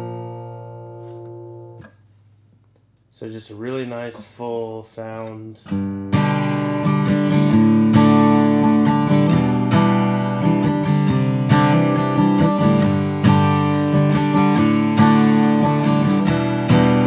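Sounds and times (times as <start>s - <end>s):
acoustic guitar strumming chords: 0.0s - 1.9s, 3.9s - 17.0s.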